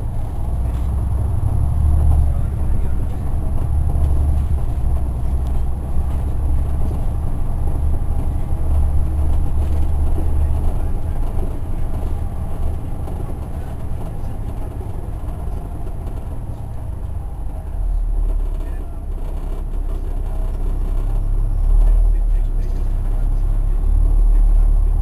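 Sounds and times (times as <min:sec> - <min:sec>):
bus engine droning: 0:00.0 - 0:25.0.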